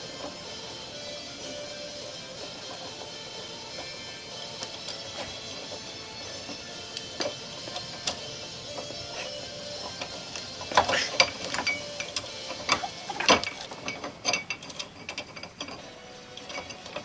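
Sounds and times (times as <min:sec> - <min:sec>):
metal parts clanking: 0:00.0 - 0:17.0.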